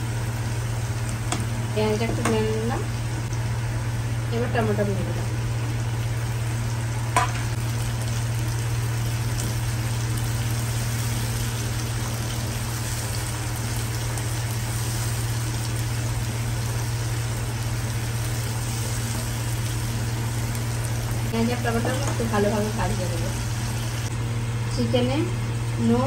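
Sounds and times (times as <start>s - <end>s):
vegetables sizzling in oil: 0.0s - 24.1s.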